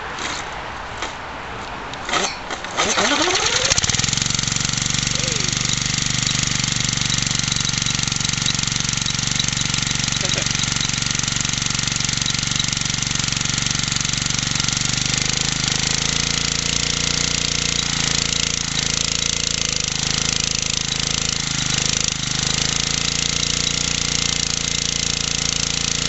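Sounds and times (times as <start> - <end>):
small engine running: 2.1 - 26.0.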